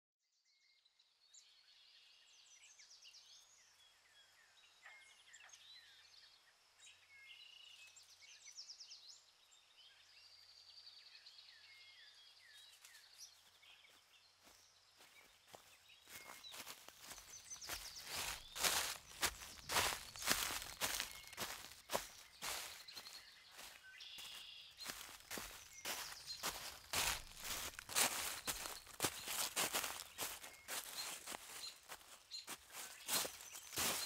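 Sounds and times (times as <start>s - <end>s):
small birds singing: 0.3s - 34.0s.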